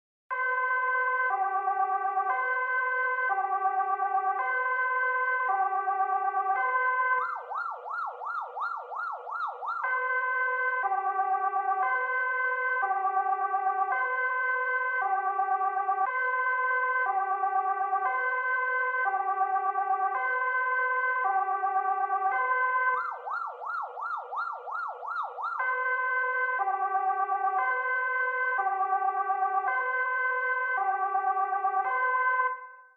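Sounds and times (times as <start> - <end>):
fast yelp siren: 0.3 - 32.9
two-tone siren: 0.3 - 32.9.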